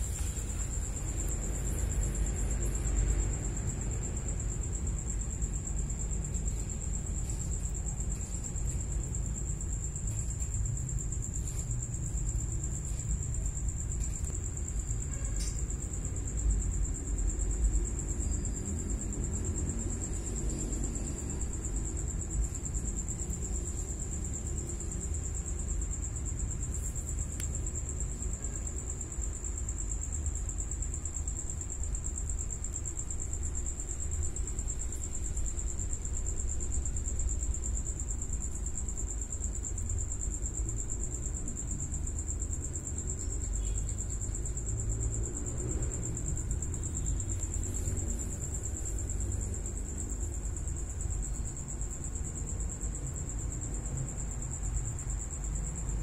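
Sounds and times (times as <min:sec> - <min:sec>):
high-pitched insect trill: 0:00.0 - 0:56.0
low constant rumble: 0:00.0 - 0:56.0.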